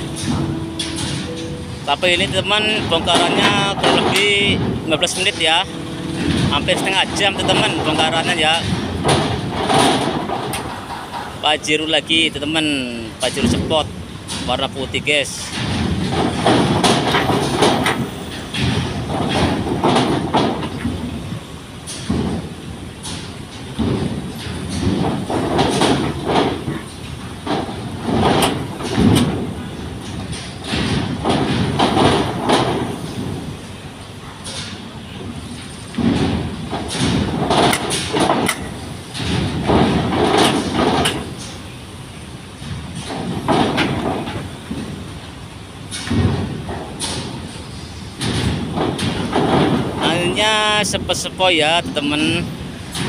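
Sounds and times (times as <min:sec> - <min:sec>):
tyres clanking on steel ramp: 0:00.0 - 0:53.0.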